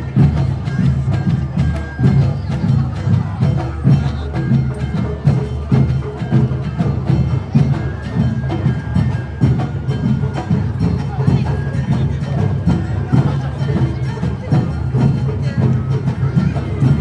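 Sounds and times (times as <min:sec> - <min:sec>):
taiko drums beating: 0:00.0 - 0:17.0.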